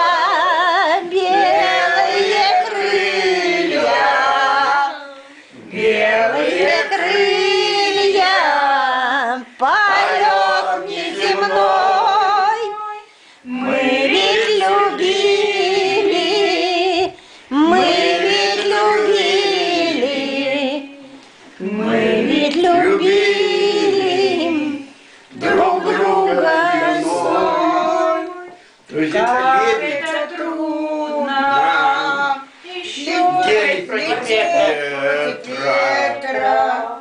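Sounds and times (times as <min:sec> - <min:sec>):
group singing unaccompanied: 0:00.0 - 0:37.0.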